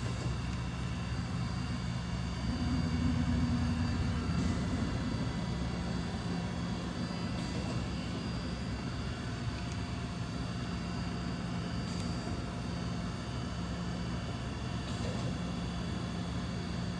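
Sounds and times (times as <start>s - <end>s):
machine hum with held tones: 0.0s - 16.9s.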